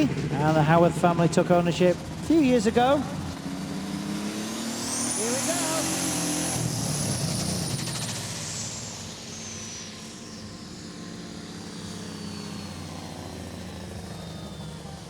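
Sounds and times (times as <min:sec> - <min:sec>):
high whine falling in pitch: 0:02.3 - 0:15.0.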